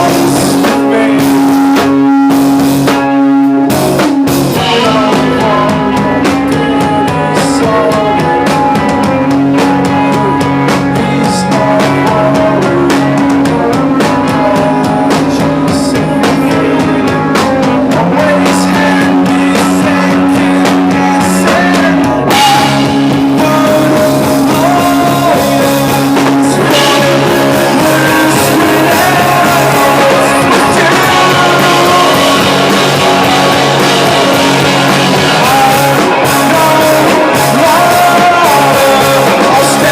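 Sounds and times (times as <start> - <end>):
bass guitar: 0.0 - 39.9
drum kit: 0.0 - 39.9
guitar: 0.0 - 39.9
person singing: 0.0 - 39.9.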